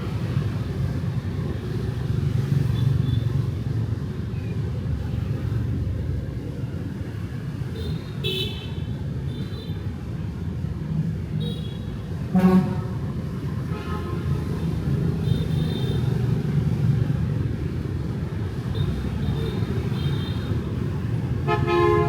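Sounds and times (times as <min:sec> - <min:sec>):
traffic engine and tyre rumble: 0:00.0 - 0:22.0.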